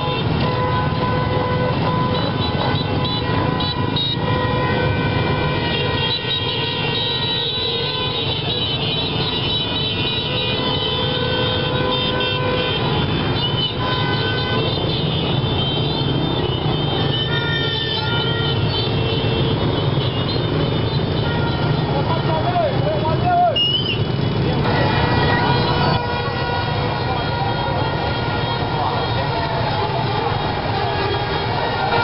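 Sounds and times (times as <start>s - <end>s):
horns tooting: 0.0s - 32.0s
motorcycle and scooter engines: 0.0s - 32.0s.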